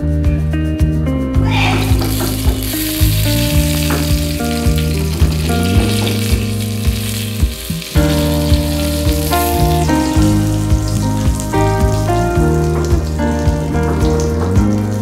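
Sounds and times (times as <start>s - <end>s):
background music with beat: 0.0s - 15.0s
spices sizzling in hot oil: 1.6s - 15.0s.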